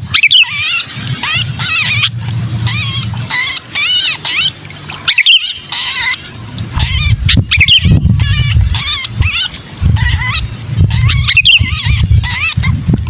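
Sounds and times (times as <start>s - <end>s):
bird distress calls: 0.0s - 12.8s.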